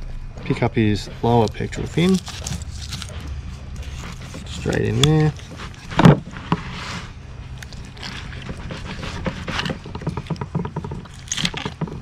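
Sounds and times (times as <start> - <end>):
knife crunching through fish bone: 0.6 - 12.0.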